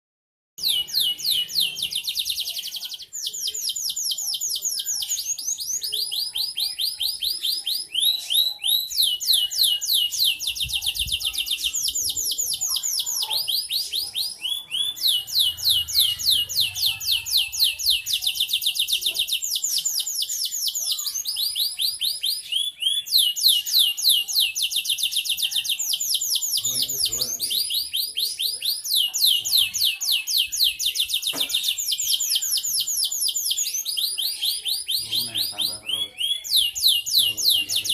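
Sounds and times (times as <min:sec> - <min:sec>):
canary singing trills: 0:00.6 - 0:37.9.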